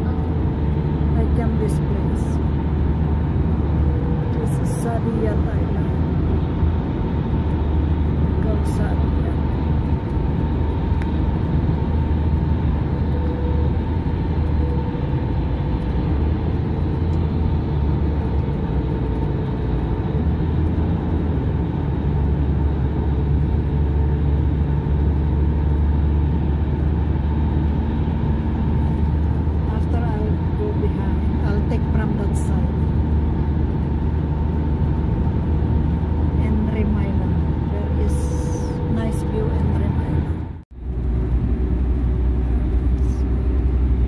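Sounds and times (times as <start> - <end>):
car road and engine rumble: 0.0 - 44.0
faint steady whine: 0.0 - 44.0.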